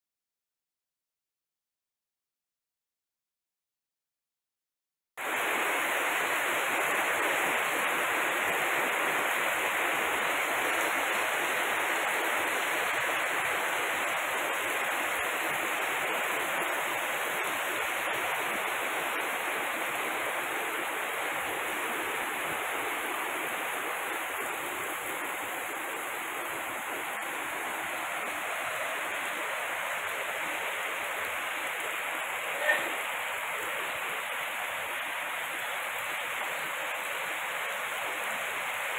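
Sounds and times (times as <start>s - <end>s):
heavy rain pouring: 5.2s - 38.9s.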